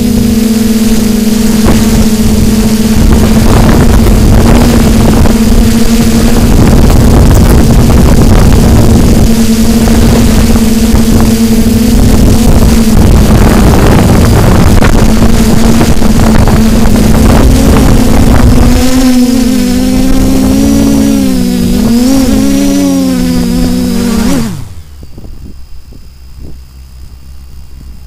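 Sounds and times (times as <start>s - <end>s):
wind buffeting microphone: 0.0s - 26.8s
drone motors humming: 0.0s - 28.0s.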